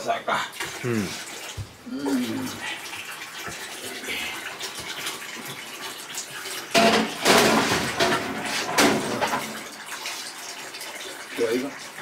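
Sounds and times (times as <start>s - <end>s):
water running from a tap: 0.0s - 12.0s.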